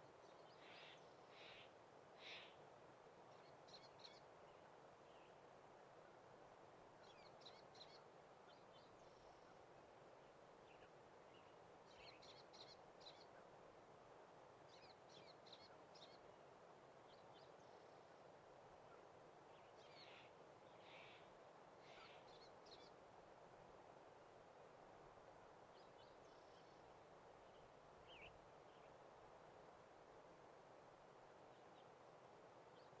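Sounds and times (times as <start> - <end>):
faint steady hiss: 0.0 - 33.0.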